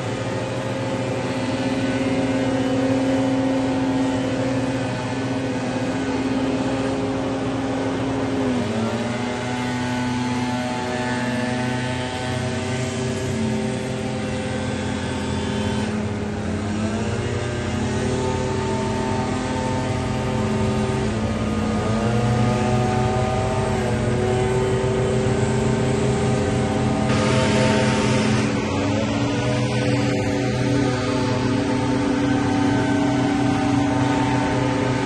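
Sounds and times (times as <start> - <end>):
leaf blower engines revving: 0.0 - 35.0.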